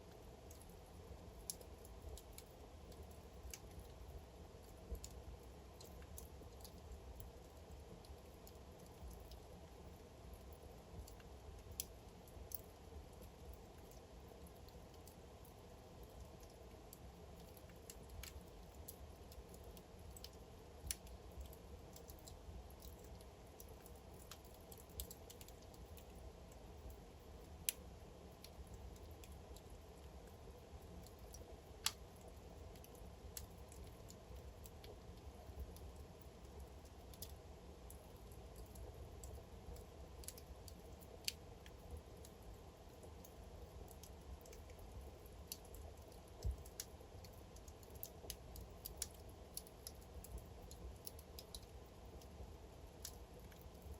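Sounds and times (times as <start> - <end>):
low rumble of flames: 0.0 - 53.9
wood fire crackling: 0.0 - 53.9.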